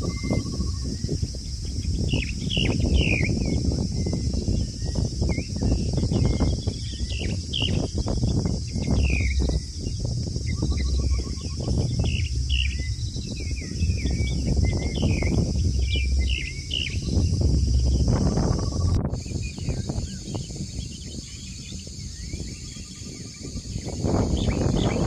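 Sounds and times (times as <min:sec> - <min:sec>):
constant high hiss: 0:00.0 - 0:25.0
small birds chirping: 0:00.0 - 0:25.0
steady low rumble: 0:00.0 - 0:25.0.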